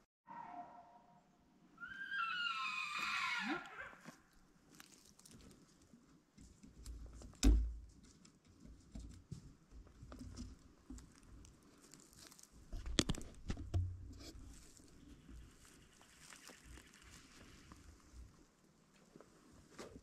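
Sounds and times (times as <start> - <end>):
rustling and crinkling: 3.9 - 20.0.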